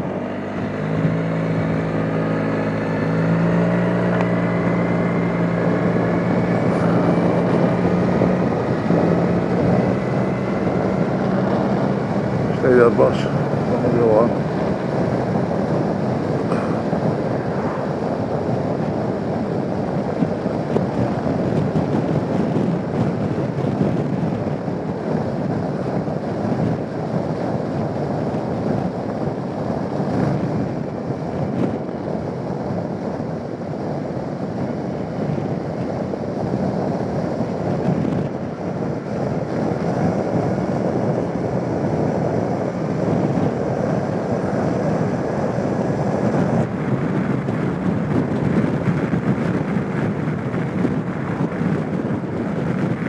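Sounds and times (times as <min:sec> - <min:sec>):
scooter engine and road noise: 0:00.0 - 0:53.0
wind rushing over microphone: 0:00.0 - 0:53.0.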